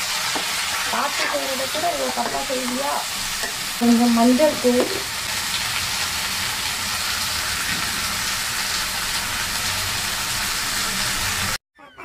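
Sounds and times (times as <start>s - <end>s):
food sizzling in hot oil: 0.0s - 11.6s.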